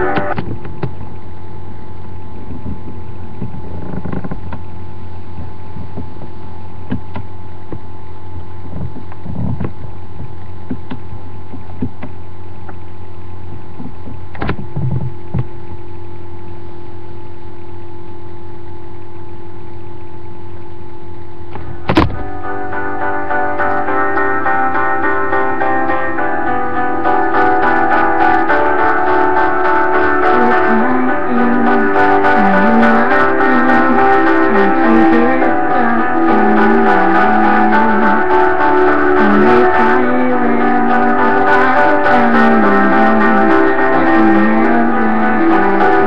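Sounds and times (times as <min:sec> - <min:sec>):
electrical hum and hiss: 0:00.0 - 0:46.0.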